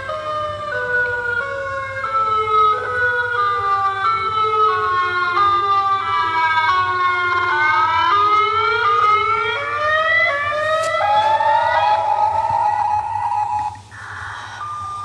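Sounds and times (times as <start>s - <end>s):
electronic siren tones: 0.0s - 15.0s.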